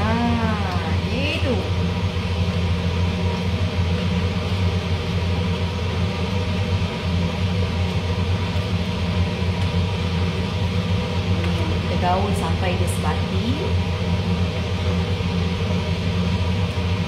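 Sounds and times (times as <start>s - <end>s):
range hood fan humming: 0.0s - 17.0s.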